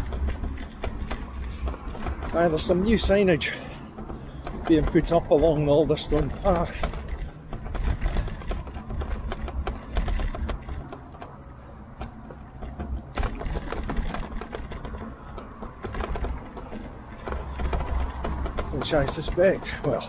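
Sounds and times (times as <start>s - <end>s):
bike rattling: 0.0s - 20.0s
tyres rumbling: 0.0s - 20.0s.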